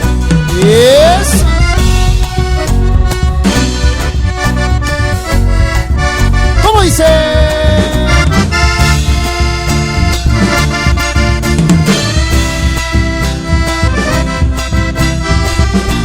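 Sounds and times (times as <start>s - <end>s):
accordion dance music: 0.0s - 16.0s.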